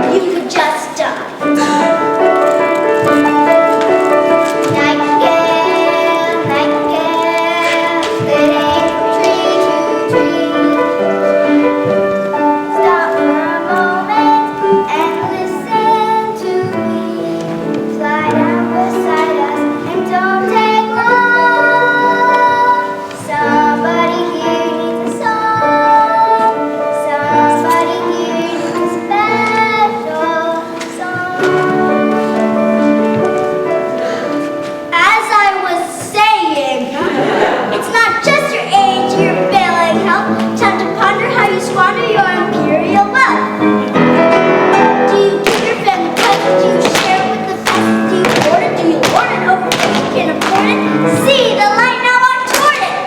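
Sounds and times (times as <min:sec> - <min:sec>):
children singing: 0:00.0 - 0:34.4, 0:36.8 - 0:53.0
instrumental accompaniment: 0:00.0 - 0:53.0.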